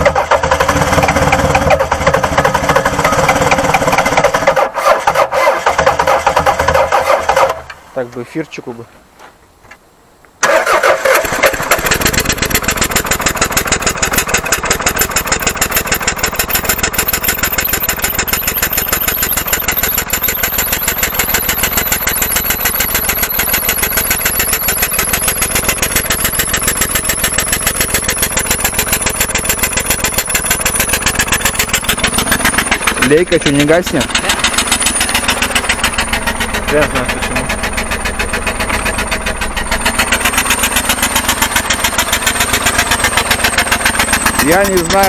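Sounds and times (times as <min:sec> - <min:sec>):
car engine starting and running rough: 0:00.0 - 0:07.8, 0:10.4 - 0:45.0.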